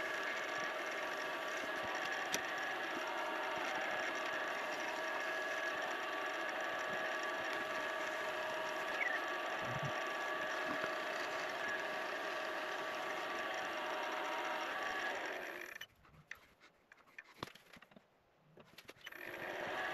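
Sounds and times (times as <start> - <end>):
wood lathe humming: 0.0 - 15.8, 19.1 - 19.9.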